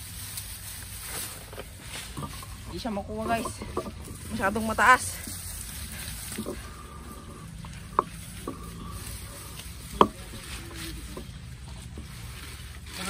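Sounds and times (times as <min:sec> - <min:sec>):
grass and leaves rustling: 0:00.0 - 0:13.0.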